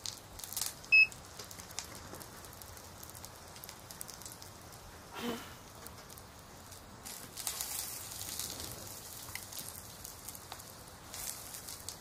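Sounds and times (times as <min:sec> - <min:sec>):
pattering hiss with crackles: 0:00.0 - 0:12.0.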